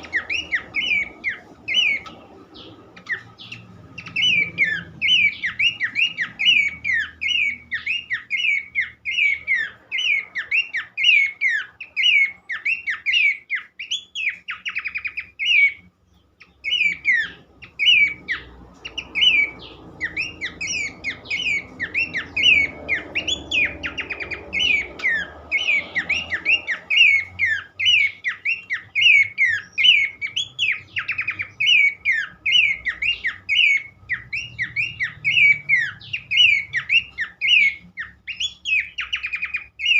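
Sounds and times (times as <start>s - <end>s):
bird singing sharp whistled notes: 0.0s - 39.9s.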